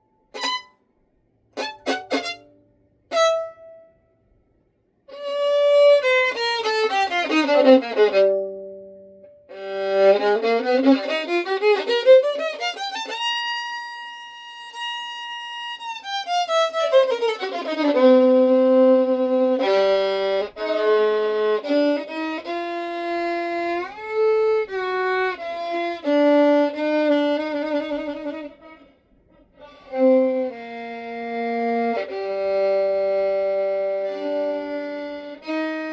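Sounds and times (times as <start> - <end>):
solo violin: 0.0 - 0.8, 1.5 - 4.2, 5.0 - 35.9.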